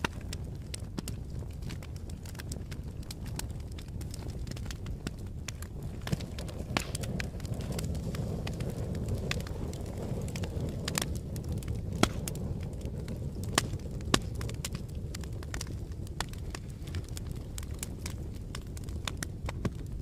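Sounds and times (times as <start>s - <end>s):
fire crackling and popping: 0.0s - 20.0s
fire flames rumbling: 0.0s - 20.0s.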